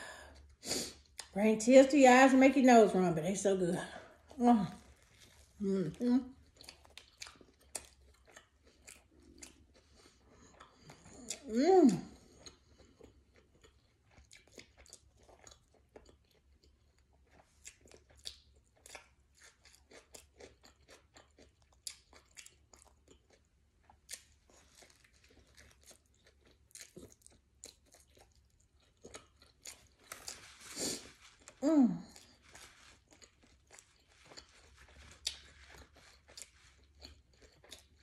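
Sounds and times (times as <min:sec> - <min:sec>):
person chewing food: 0:00.0 - 0:01.4, 0:04.0 - 0:38.0.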